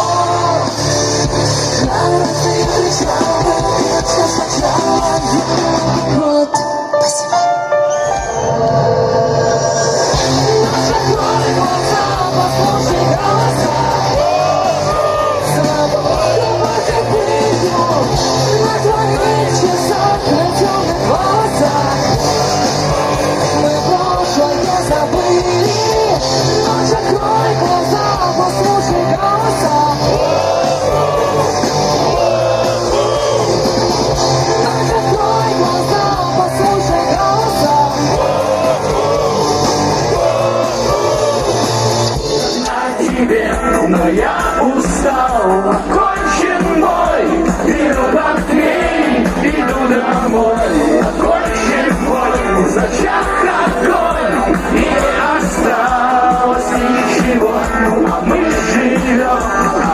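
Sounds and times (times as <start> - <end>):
person singing: 0.0 - 8.1, 10.1 - 59.9
live rock band playing: 0.0 - 59.9.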